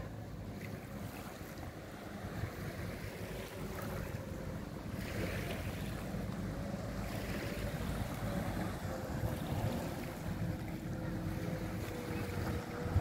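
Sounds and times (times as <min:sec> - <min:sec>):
faint ferry engine hum: 0:00.0 - 0:13.0
lapping river water: 0:00.0 - 0:13.0
wind rumbling on microphone: 0:00.0 - 0:13.0.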